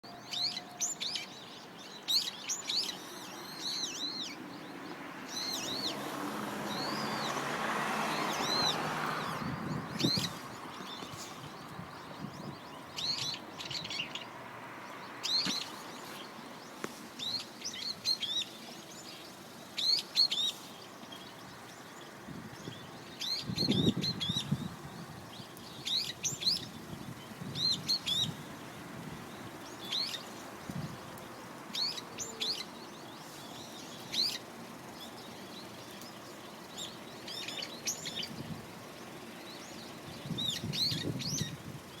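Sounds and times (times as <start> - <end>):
small bird chirping: 0.0 - 6.0, 8.1 - 28.5, 29.2 - 42.0.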